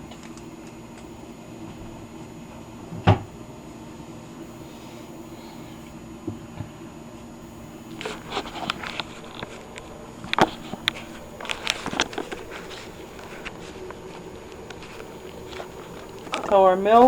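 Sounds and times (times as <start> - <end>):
espresso machine humming: 0.0 - 17.0.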